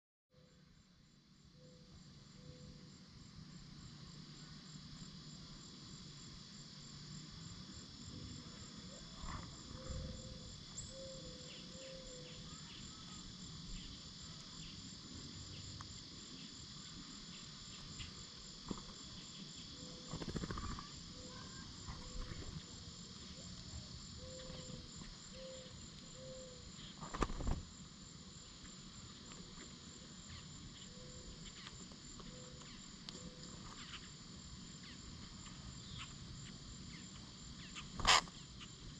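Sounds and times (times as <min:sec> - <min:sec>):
insects trilling: 0:00.4 - 0:38.9.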